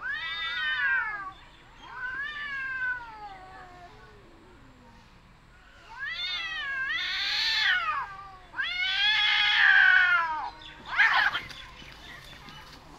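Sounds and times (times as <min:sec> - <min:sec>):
cats yowling: 0:00.0 - 0:04.8, 0:05.8 - 0:11.6.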